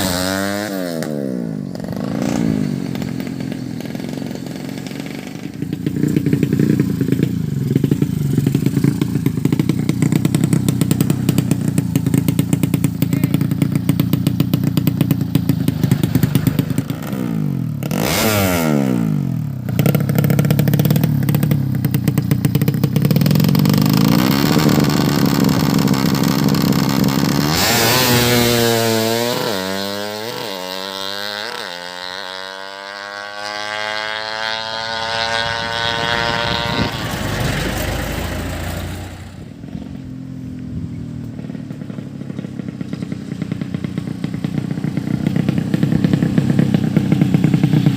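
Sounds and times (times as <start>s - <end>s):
drag-racing motorcycle engine: 0.0s - 47.9s.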